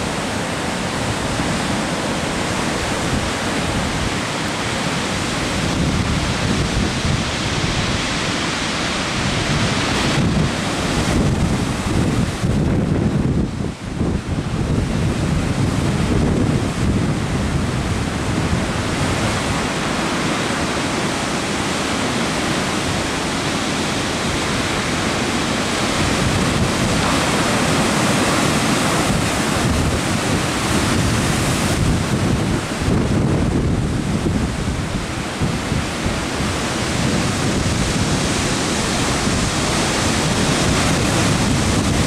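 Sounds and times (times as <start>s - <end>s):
waves breaking on sand beach: 0.0s - 42.0s
wind buffeting microphone: 0.0s - 42.0s.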